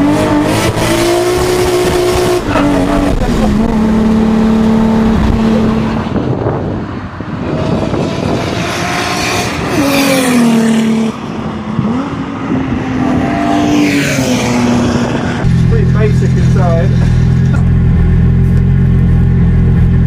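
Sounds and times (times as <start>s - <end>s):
race cars passing: 0.0s - 17.9s.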